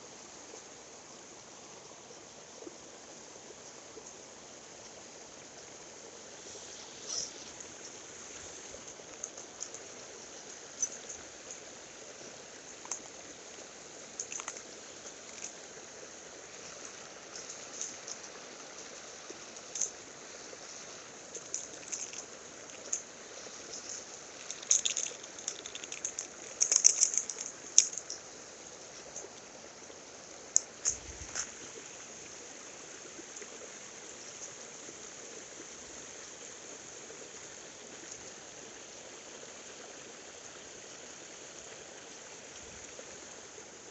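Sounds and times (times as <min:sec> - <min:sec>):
stream water running: 0:00.0 - 0:43.9.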